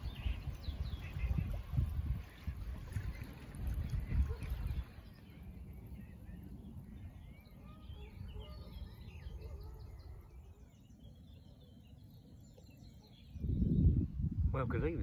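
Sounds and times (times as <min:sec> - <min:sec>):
small birds singing and chirping: 0:00.0 - 0:15.0.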